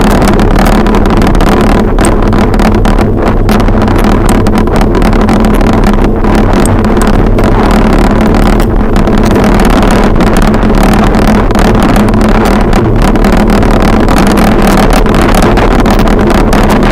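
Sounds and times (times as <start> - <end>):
steady low hum: 0.0 - 16.9
tyre and road rumble: 0.0 - 16.9
wind buffeting microphone: 0.0 - 16.9.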